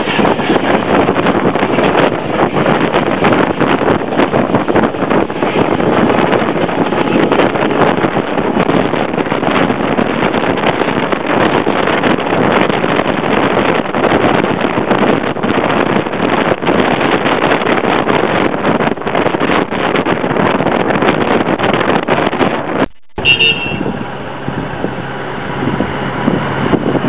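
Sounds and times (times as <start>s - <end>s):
train wheel and rail noise: 0.0s - 22.9s
wind on microphone: 0.0s - 27.0s.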